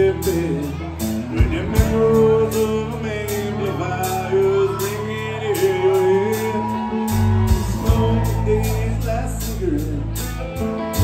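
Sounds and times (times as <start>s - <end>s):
electric guitar: 0.0s - 11.0s
man singing: 0.0s - 11.0s.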